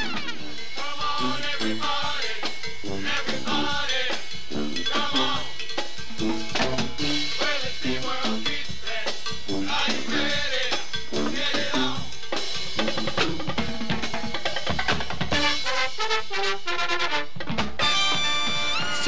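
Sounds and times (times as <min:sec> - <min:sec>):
upbeat latin music with drums: 0:00.0 - 0:19.0.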